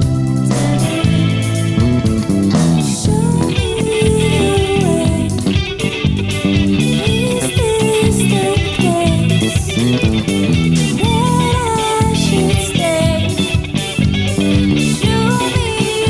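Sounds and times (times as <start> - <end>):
electric guitar lead line: 0.0 - 16.0
funk rock band playing: 0.0 - 16.0.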